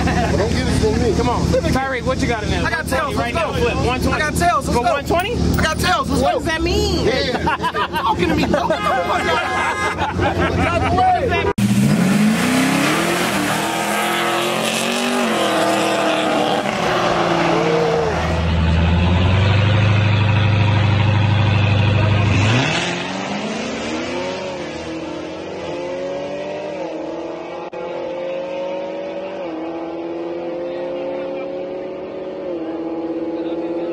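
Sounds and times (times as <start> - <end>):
car engines revving and rumbling: 0.0 - 33.9.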